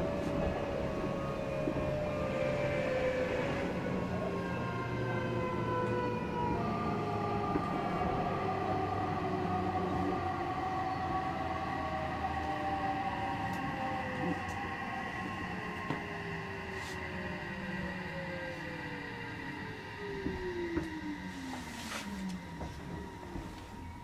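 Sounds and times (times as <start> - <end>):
train low rumble: 0.0 - 24.0
electric train motors whining: 0.1 - 24.0.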